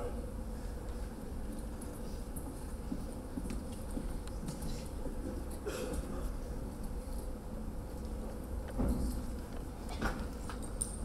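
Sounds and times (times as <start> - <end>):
low hum of hall: 0.0 - 11.0.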